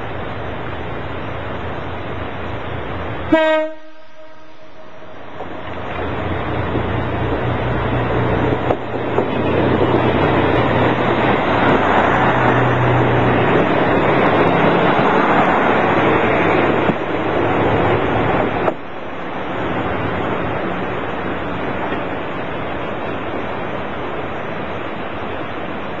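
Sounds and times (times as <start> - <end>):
railcar engine drone: 0.0 - 26.0
wheel-on-rail noise: 5.0 - 26.0.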